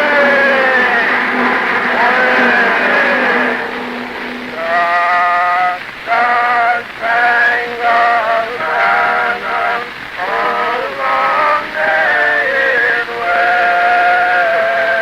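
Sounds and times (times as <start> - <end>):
men singing in harmony: 0.0 - 15.0.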